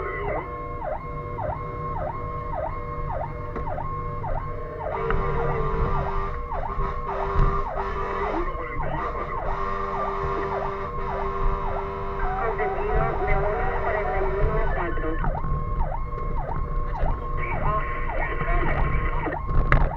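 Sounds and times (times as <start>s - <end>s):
engine and road rumble: 0.0s - 19.9s
fire engine siren wailing: 0.0s - 19.9s
steady lower tone: 0.0s - 19.9s.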